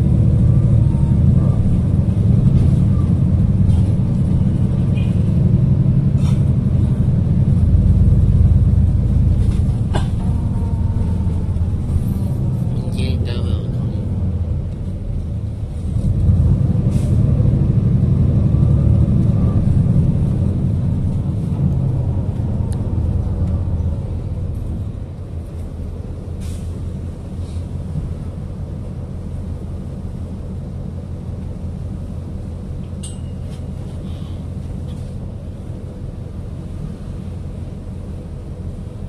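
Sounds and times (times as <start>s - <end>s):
bus engine and road rumble: 0.0s - 39.0s.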